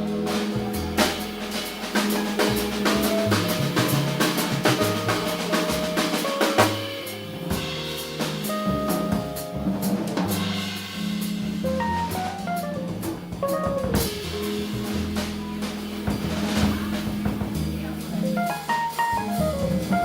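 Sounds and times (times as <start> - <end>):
drum kit with cymbals: 0.0 - 20.0
low bass notes: 0.0 - 20.0.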